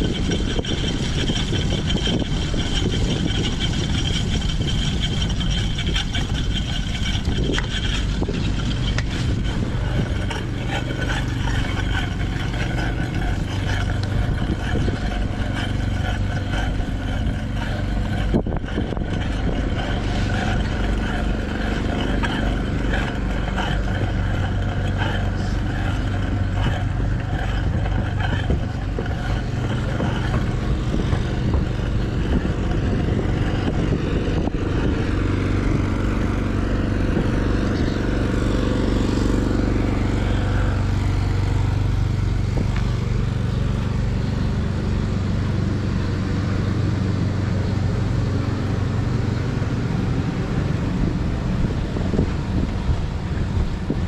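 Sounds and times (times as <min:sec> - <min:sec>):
bike tyres rolling through sand: 0:00.0 - 0:54.0
drivetrain rattle: 0:00.0 - 0:54.0
low hum: 0:00.0 - 0:54.0
wind over microphone: 0:00.0 - 0:54.0.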